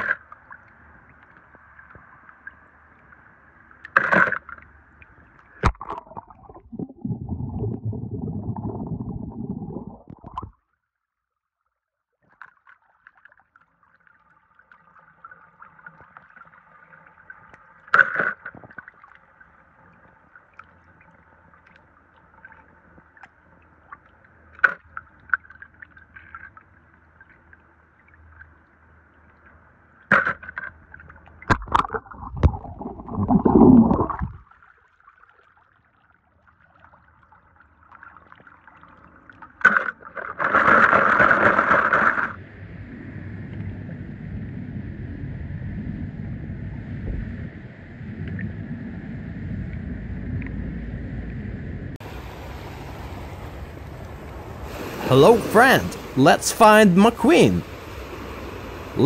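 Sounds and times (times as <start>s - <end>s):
pool water trickling: 0.0s - 40.5s, 52.0s - 59.0s.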